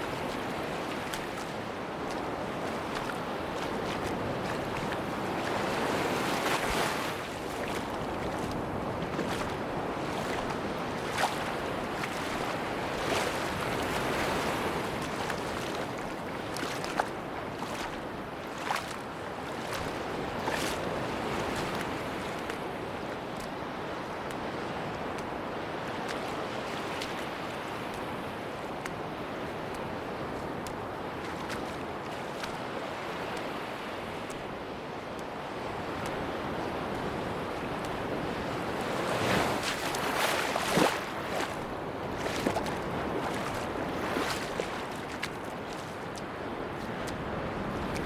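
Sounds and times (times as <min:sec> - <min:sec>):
sea waves washing onto beach: 0:00.0 - 0:48.0.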